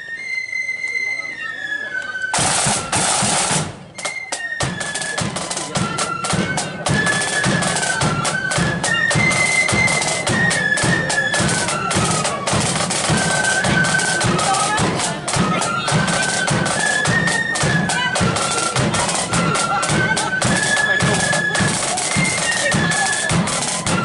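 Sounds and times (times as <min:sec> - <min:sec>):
high flutes playing melody: 0:00.0 - 0:24.0
bass and side drums beating: 0:02.4 - 0:03.9, 0:04.6 - 0:24.0.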